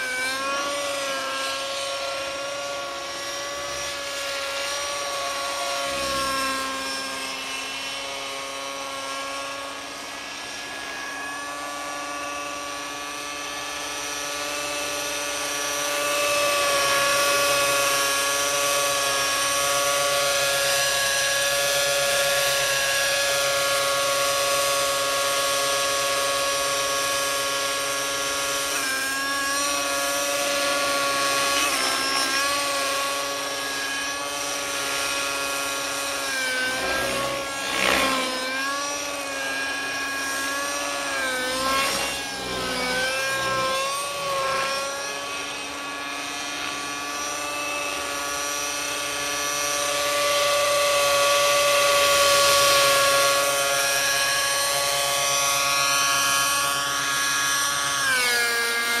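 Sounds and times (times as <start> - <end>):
rc helicopter engine whine: 0.0 - 59.0.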